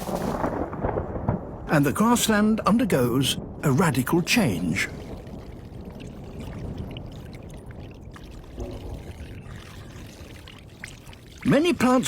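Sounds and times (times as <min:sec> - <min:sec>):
floodwater rushing: 0:01.7 - 0:12.0.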